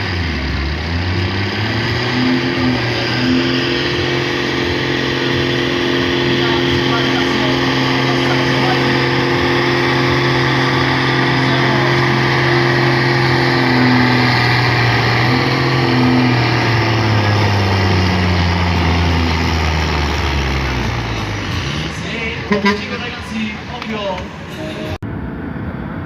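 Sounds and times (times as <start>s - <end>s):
tractor engine under load: 0.0s - 25.0s.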